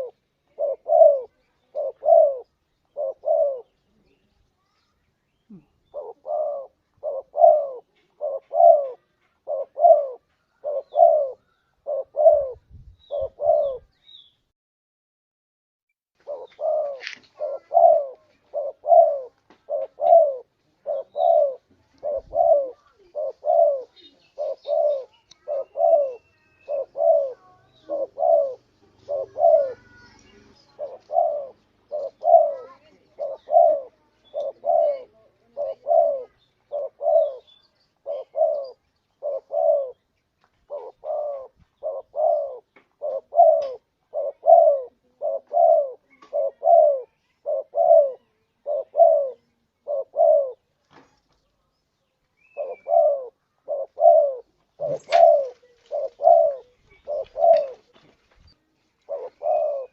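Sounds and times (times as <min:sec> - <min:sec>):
dove cooing: 0:00.0 - 0:04.3, 0:05.5 - 0:13.9, 0:16.2 - 0:50.7, 0:52.4 - 0:58.1, 0:59.0 - 0:59.9.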